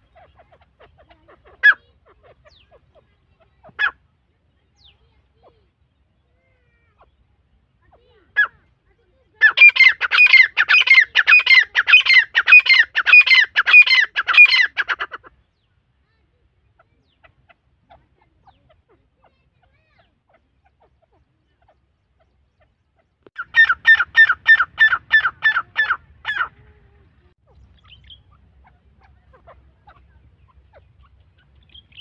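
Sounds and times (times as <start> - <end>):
faint bird chirps: 0.0 - 32.0
francolins calling: 0.0 - 32.0.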